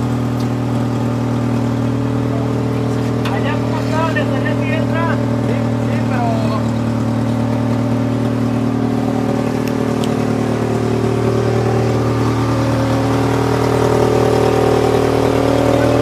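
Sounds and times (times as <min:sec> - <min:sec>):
large vehicle engine humming: 0:00.0 - 0:16.0.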